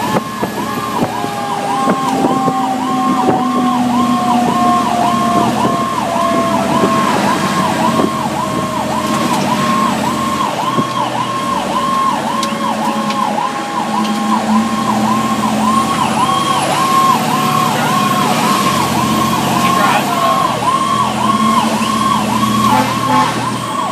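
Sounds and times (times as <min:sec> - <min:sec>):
lower siren tone winding: 0:00.0 - 0:19.8
fire engine siren yelping: 0:00.0 - 0:23.9.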